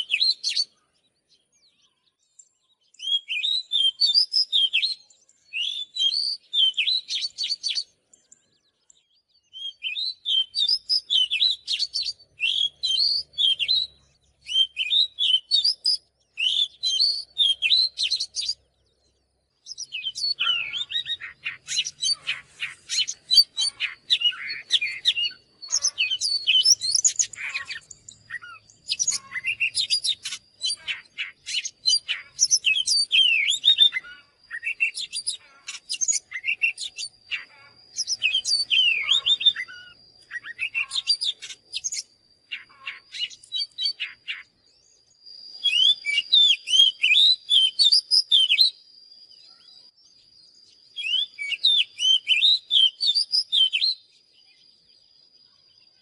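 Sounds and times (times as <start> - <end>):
bird singing whistles and trills: 0.0 - 56.0
faint steady high tone: 10.6 - 56.0.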